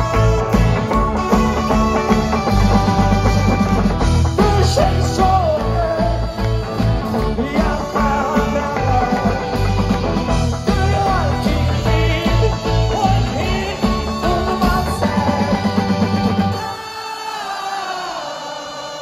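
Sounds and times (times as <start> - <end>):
drum kit beat: 0.0 - 16.6
electric guitars: 0.0 - 17.0
live rock band through pa: 0.0 - 17.8.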